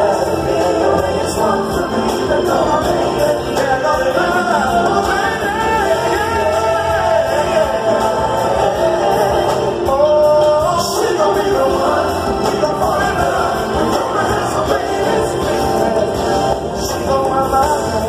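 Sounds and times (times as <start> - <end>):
live band accompaniment: 0.0 - 18.0.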